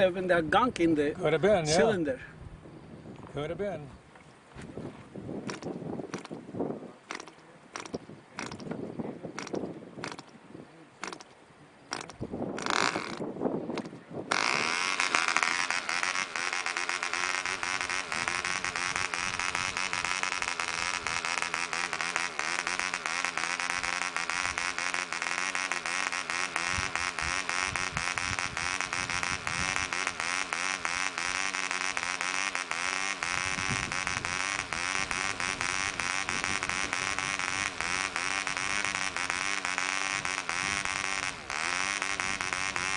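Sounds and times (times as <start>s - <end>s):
model engine pops and sputter: 5.4s - 6.4s, 7.1s - 10.4s, 11.0s - 11.3s, 11.9s - 42.9s
model engine running: 5.5s - 6.4s, 7.1s - 8.8s, 9.4s - 10.3s, 11.0s - 11.3s, 11.9s - 42.9s.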